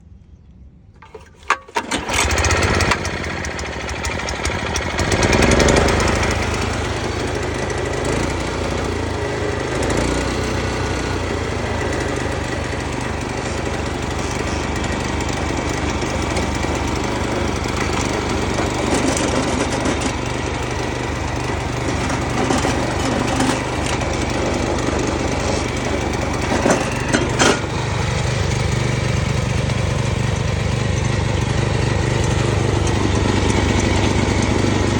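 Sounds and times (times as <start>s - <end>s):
tractor engine starting and running: 0.9s - 34.9s.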